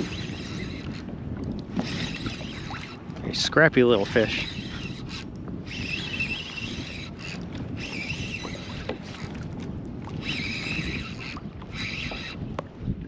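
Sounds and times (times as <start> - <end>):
fishing reel whirring: 0.0 - 12.6
water around kayak: 0.0 - 13.0
wind on microphone: 0.0 - 13.0.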